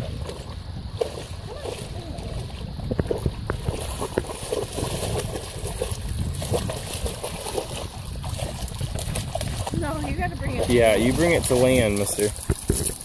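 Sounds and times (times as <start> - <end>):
water sloshing and splashing: 0.0 - 13.0
wind rumble on microphone: 0.0 - 13.0.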